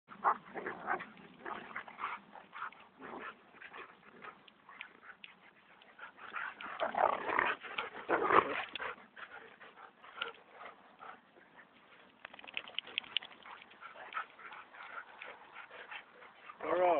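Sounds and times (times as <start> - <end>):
dogs growling and yipping: 0.1 - 16.9.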